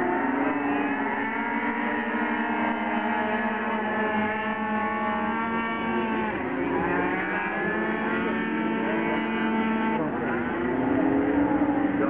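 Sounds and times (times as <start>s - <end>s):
scooter engines revving: 0.0s - 12.0s.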